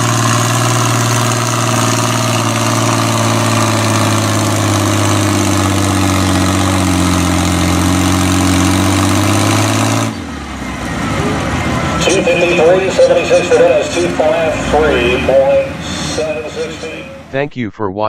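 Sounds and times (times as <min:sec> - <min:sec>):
tractor engine running: 0:00.0 - 0:17.5.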